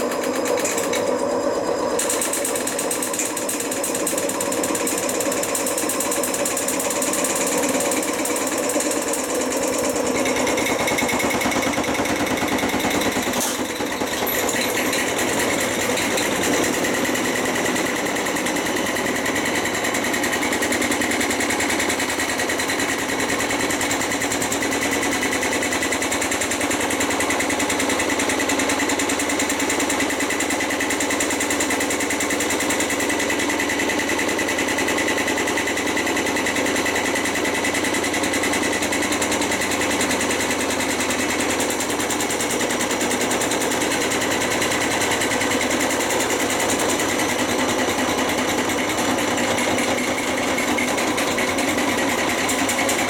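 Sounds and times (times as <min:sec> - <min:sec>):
washing machine rattling on spin: 0:01.9 - 0:53.0.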